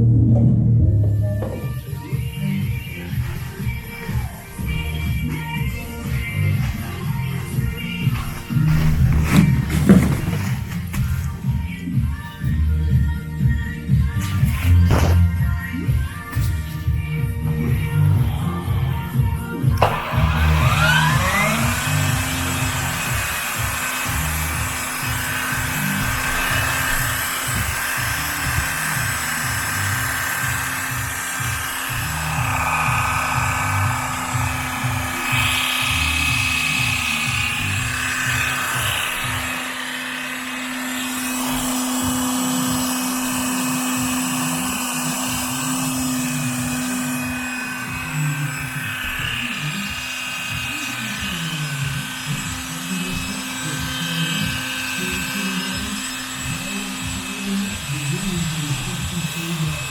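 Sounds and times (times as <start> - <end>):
background music with bass beat: 0.0 - 59.9
sander motor whining: 0.8 - 59.9.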